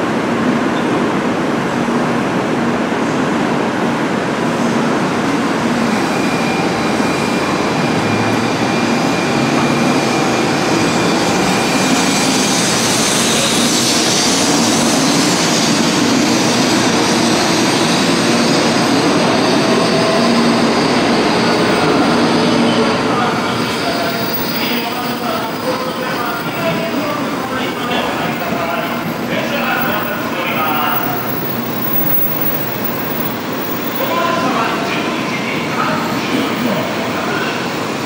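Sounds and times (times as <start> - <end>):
train rolling: 3.8 - 38.0.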